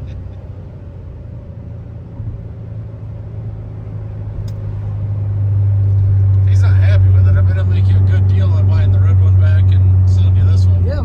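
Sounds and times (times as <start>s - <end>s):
car engine droning while driving: 0.0s - 11.0s.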